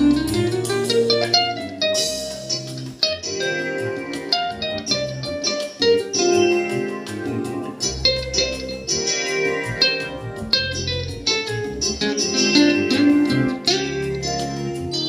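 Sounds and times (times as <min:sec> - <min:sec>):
low bass notes: 0:00.0 - 0:15.0
plucked guitar notes: 0:00.0 - 0:15.0.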